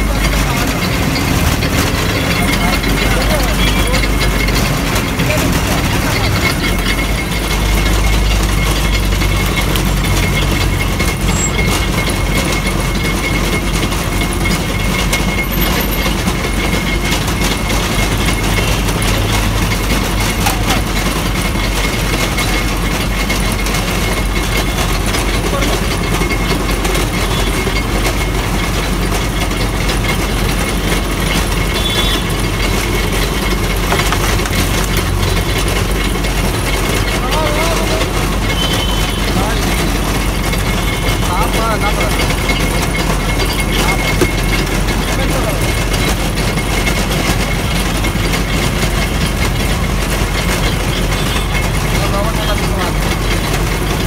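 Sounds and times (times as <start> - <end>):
roller crusher running: 0.0 - 54.0.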